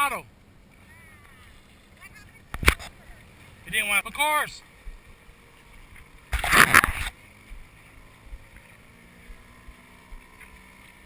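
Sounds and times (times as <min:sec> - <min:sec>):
distant outboard motor: 0:00.0 - 0:11.0.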